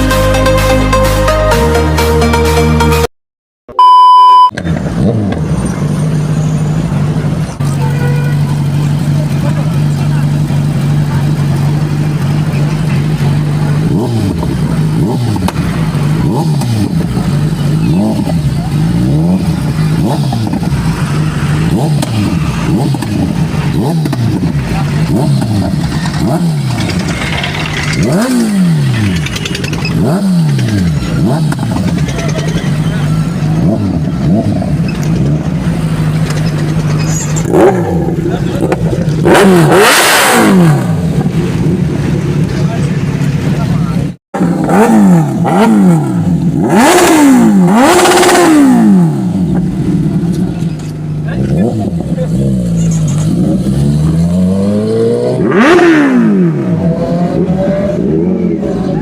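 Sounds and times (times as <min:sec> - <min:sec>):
motorcycle engine revving: 0:04.6 - 0:59.0.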